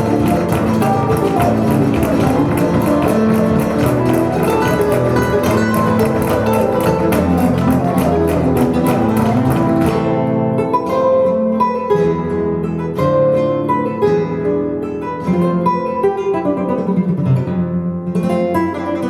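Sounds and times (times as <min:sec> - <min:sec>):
flamenco acoustic guitar strumming: 0:00.0 - 0:19.0
plucked guitar notes: 0:00.0 - 0:19.0.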